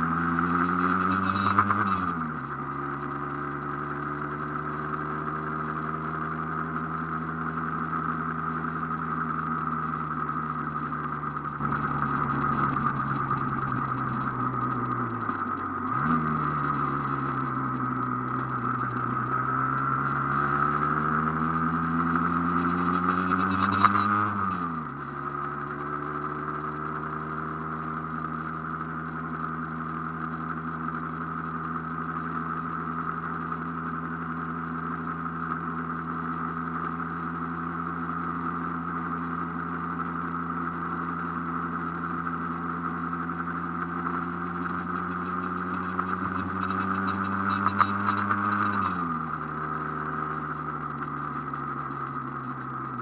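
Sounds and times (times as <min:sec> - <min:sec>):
two-stroke motorcycle engine: 0:00.0 - 0:53.0.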